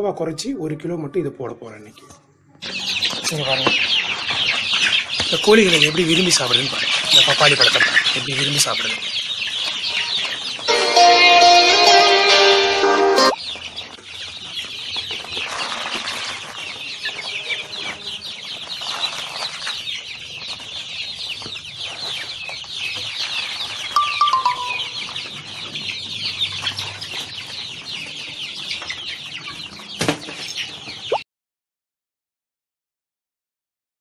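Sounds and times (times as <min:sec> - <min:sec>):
chicks peeping: 0:00.5 - 0:31.2.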